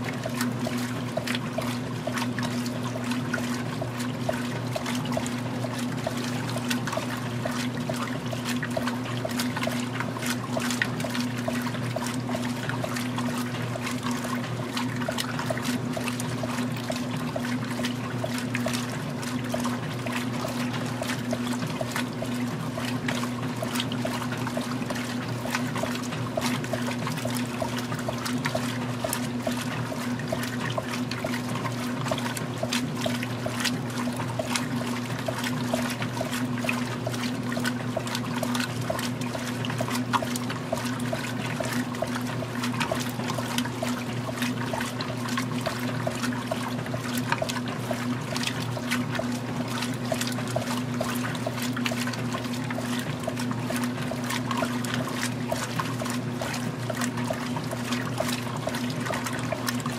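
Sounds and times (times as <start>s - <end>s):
motor hum: 0.0s - 59.9s
water sloshing in washing machine: 0.0s - 59.9s.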